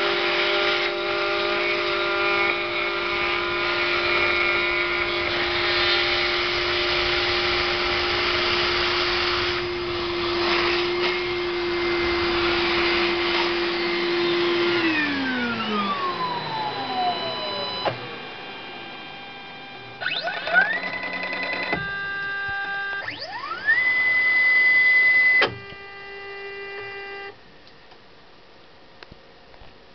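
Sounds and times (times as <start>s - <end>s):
router spindle milling plastic: 0.0s - 26.6s
axis motors whining: 0.0s - 27.4s.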